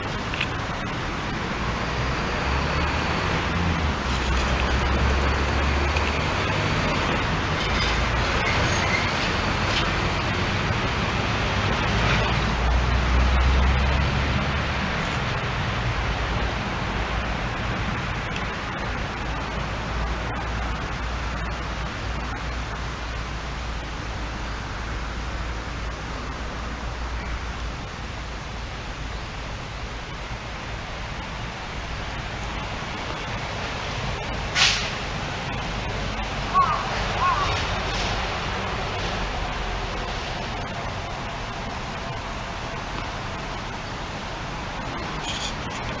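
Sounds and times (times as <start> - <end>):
road traffic hiss: 0.0 - 46.0
vehicles passing rumble: 0.0 - 46.0.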